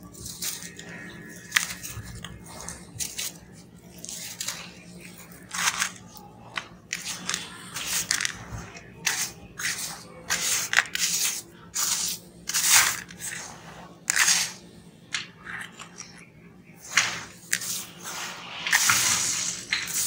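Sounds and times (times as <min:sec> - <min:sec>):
faint low hum: 0:00.0 - 0:20.0
hands crunching gritty sand mix: 0:00.1 - 0:14.6, 0:16.8 - 0:20.0.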